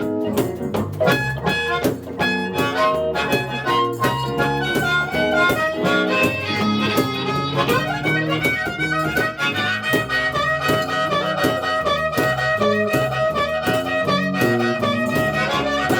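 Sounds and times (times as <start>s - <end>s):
blues band playing: 0.0s - 15.9s
strummed rhythmic accompaniment: 0.0s - 15.9s
sustained lead melody: 0.0s - 15.9s.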